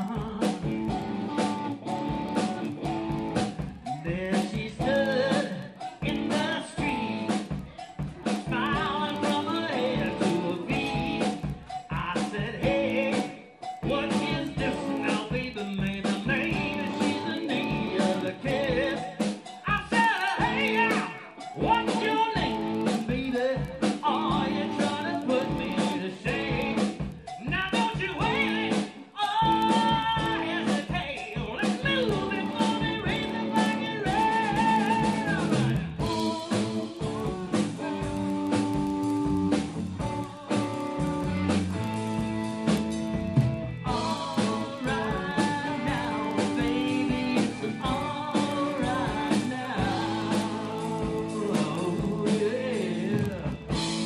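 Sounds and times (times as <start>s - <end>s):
person singing: 0.0s - 43.0s, 43.8s - 54.0s
live band playing: 0.0s - 54.0s.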